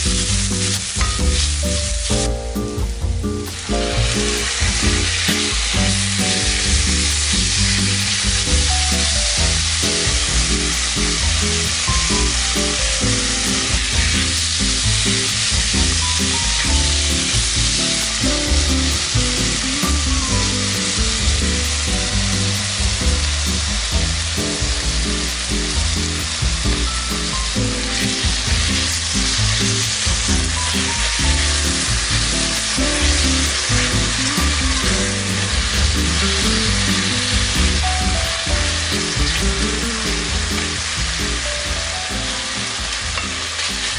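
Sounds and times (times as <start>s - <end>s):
background music: 0.0s - 43.9s
food sizzling in hot oil: 0.0s - 43.9s.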